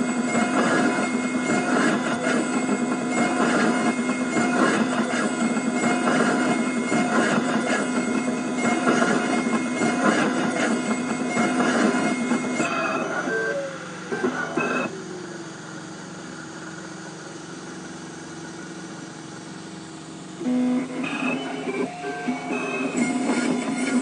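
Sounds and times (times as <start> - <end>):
milling machine whining and grinding: 0.0 - 24.0.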